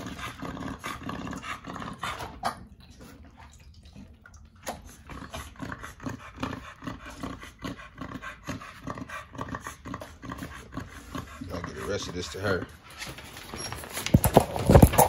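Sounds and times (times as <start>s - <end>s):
dogs making low vocal sounds: 0.0s - 13.0s.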